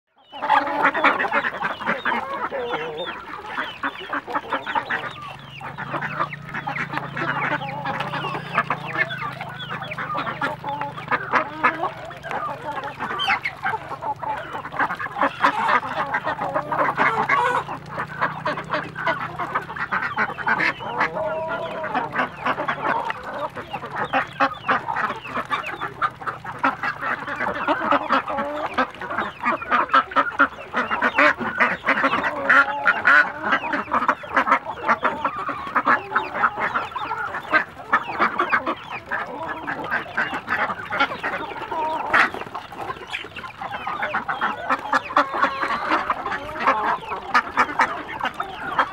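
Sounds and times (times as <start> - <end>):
ducks quacking: 0.1 - 48.9
duck bills clicking in feed: 0.2 - 48.9.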